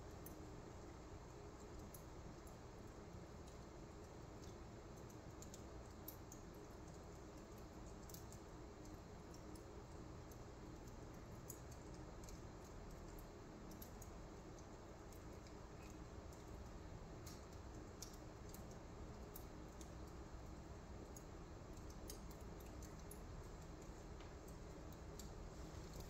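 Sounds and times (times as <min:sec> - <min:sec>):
fire crackling: 0:00.1 - 0:26.0.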